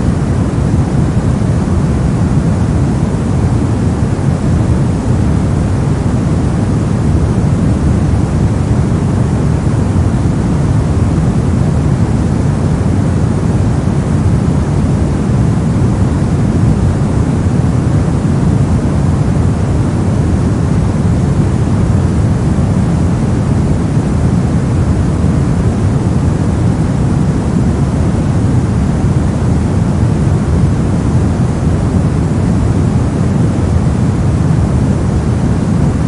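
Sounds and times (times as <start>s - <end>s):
brown noise: 0.0s - 36.0s.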